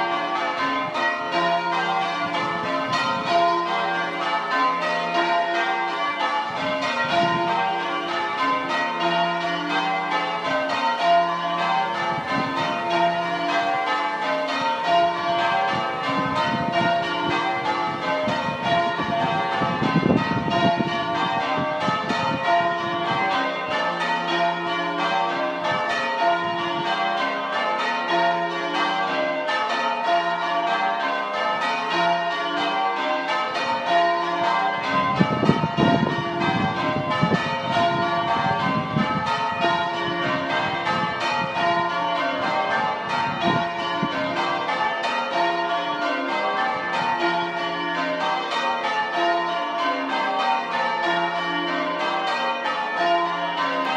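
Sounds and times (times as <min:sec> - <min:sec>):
church bells change ringing: 0:00.0 - 0:53.9.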